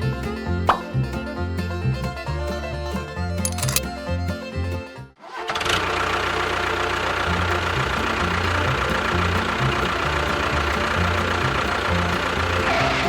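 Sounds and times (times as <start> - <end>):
background music bass: 0.0 - 5.1, 7.3 - 13.0.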